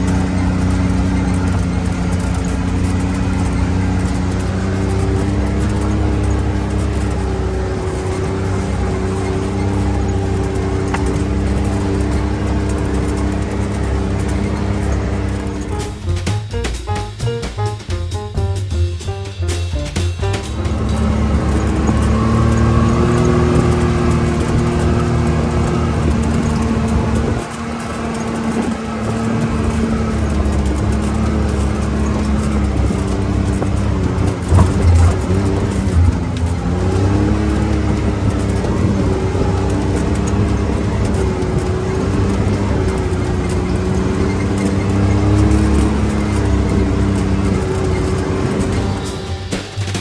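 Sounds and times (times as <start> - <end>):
engine running at steady cruise: 0.0 - 50.0.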